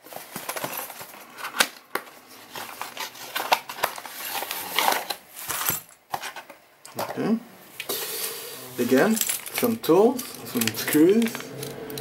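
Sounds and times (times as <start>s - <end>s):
packaging rustling: 0.0s - 7.1s, 8.8s - 12.0s.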